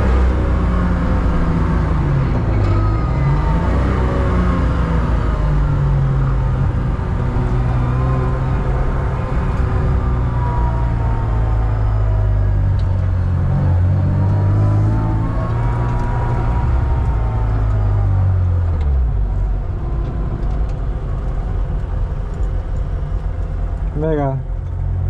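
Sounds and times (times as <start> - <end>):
race car engine droning: 0.0 - 25.0.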